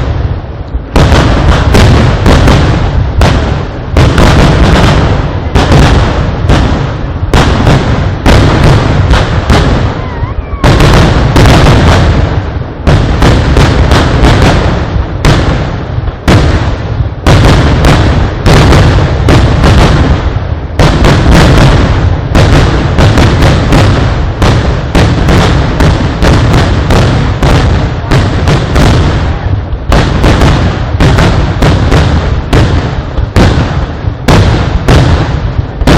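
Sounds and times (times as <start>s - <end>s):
fireworks barrage: 0.0s - 35.9s
sharp firework reports: 0.0s - 35.9s.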